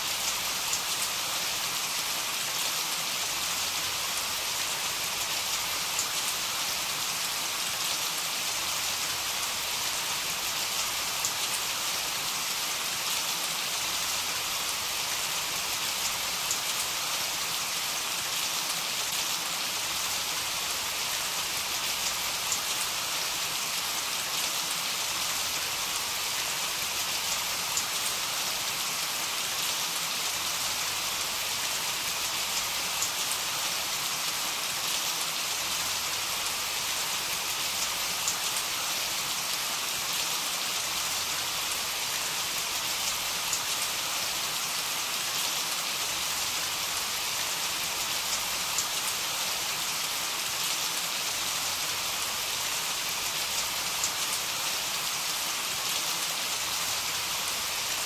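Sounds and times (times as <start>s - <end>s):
heavy rain falling: 0.1s - 58.0s.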